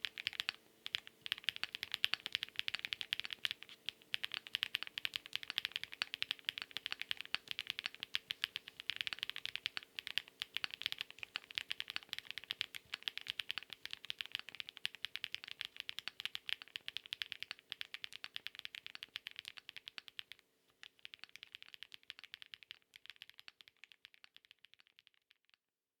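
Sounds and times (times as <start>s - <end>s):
fast typing on mechanical keyboard: 0.0s - 25.1s.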